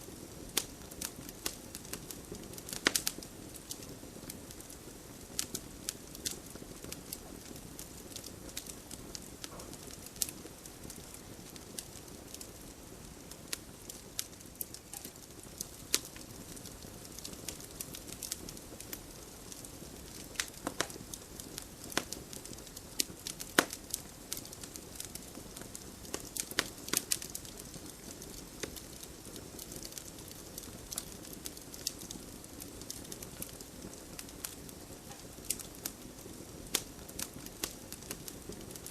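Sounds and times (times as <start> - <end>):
low hiss of burning logs: 0.0 - 38.9
wood fire crackling and popping: 0.0 - 38.9.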